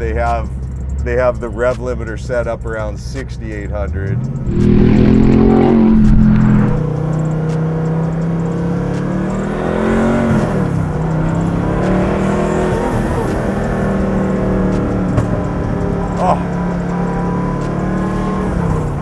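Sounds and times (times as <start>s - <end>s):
car engine accelerating: 2.2s - 19.0s.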